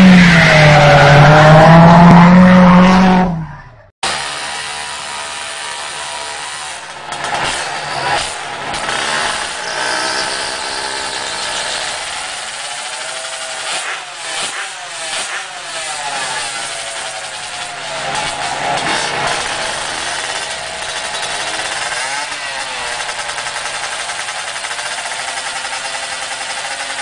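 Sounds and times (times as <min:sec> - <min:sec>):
vehicle engines revving: 0:00.0 - 0:03.9, 0:05.6 - 0:25.1.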